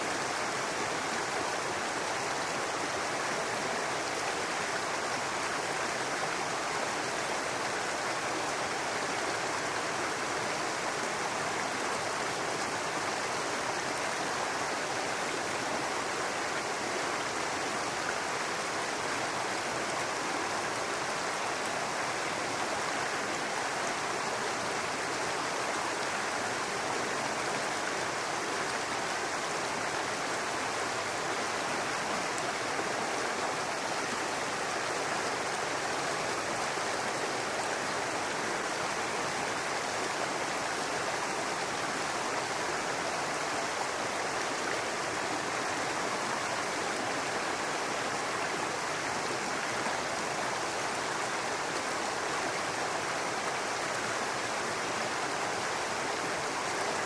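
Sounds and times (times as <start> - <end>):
brook water running over rocks: 0.0 - 57.0.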